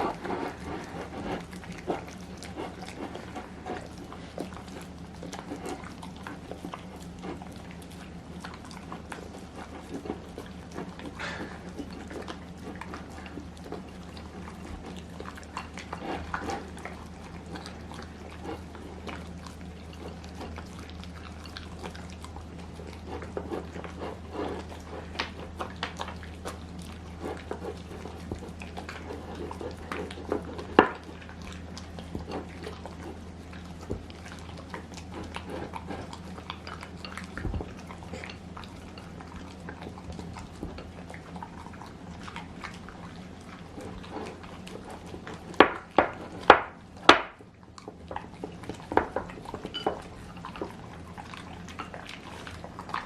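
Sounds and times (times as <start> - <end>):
dogs clicking and tapping: 0.0 - 53.0
steady low hum: 0.0 - 53.0.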